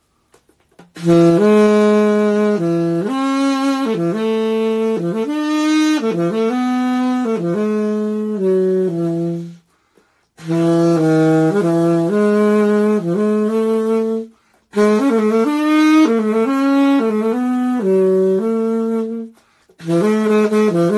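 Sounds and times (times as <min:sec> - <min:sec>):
saxophone melody: 0:00.8 - 0:20.9.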